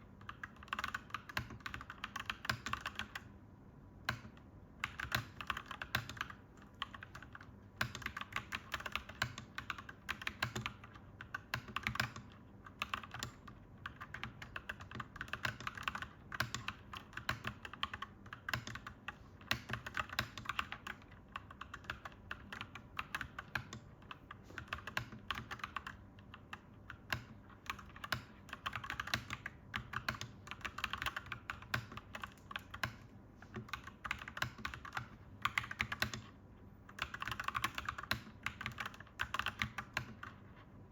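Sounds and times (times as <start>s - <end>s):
mechanical keyboard typing: 0.0s - 3.3s, 4.0s - 40.7s.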